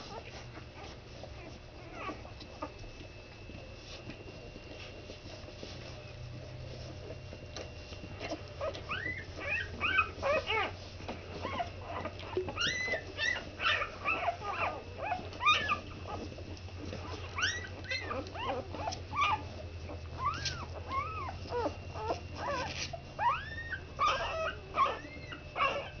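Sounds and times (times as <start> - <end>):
puppies whimpering and squeaking: 0.0 - 26.0
steady low hum: 0.0 - 26.0.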